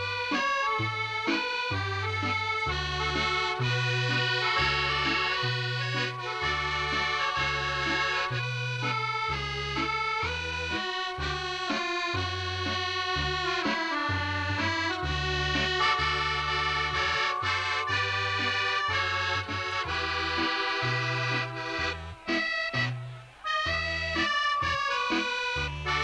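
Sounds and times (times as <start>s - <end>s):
live dance band music: 0.0s - 26.0s.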